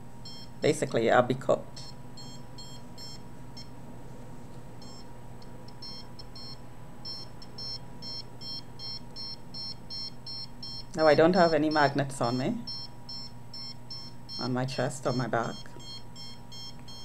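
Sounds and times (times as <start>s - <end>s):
meter beeping high-pitched tones: 0.2s - 0.5s, 1.8s - 3.7s, 4.8s - 5.0s, 5.7s - 17.0s.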